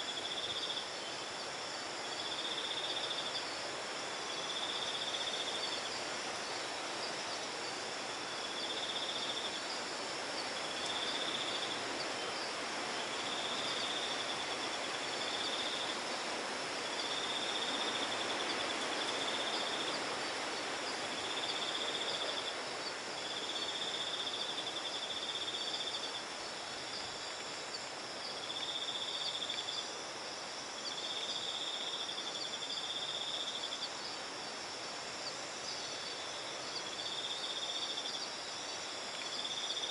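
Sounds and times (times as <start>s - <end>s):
background hiss: 0.0s - 39.9s
insect chorus: 0.0s - 39.9s.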